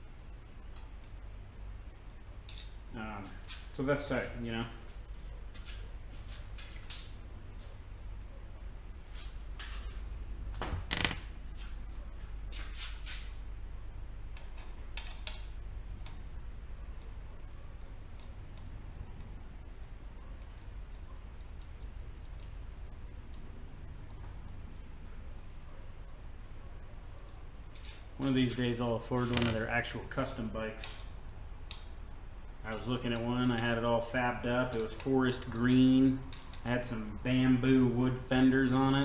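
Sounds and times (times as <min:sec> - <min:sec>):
cricket chirping: 0:00.0 - 0:03.7, 0:04.5 - 0:29.5, 0:30.2 - 0:33.4
low steady hum: 0:00.0 - 0:39.0.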